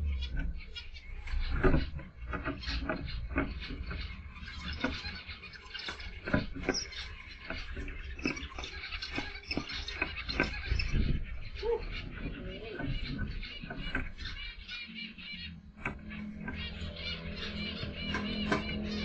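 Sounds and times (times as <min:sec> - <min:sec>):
finches chipping: 0:00.0 - 0:19.0.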